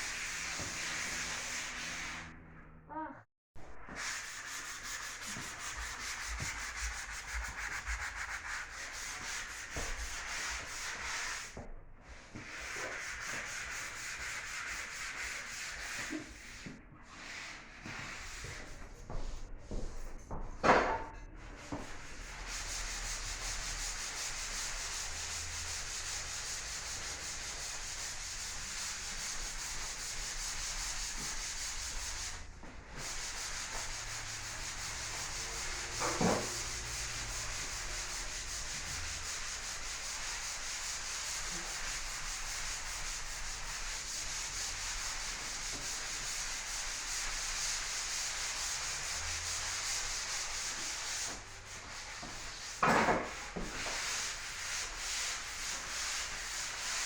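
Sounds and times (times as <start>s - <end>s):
sanding drywall: 0.0s - 2.4s, 3.8s - 20.6s, 21.4s - 57.0s.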